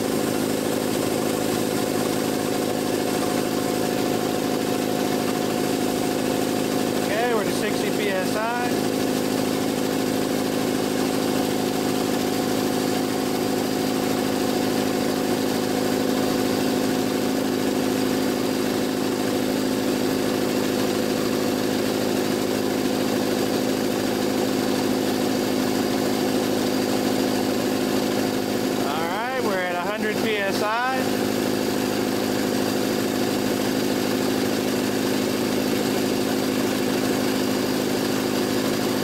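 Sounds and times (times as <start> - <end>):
air compressor running: 0.0 - 39.0.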